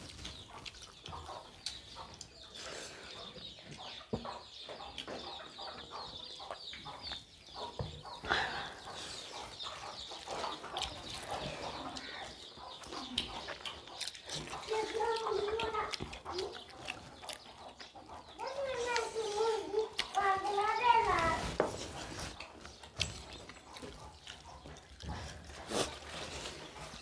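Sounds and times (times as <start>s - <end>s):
chewing and mouth clicks: 0.0s - 8.2s, 8.8s - 20.6s, 22.3s - 27.0s.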